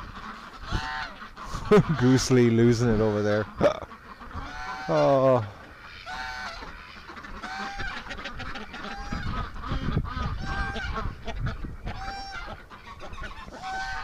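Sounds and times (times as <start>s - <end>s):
goose honking: 0.0s - 14.0s.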